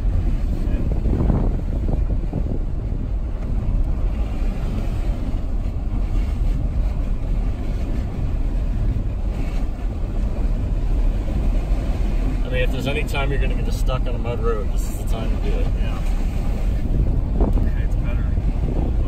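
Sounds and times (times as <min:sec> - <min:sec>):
car rumbling on dirt road: 0:00.0 - 0:19.0.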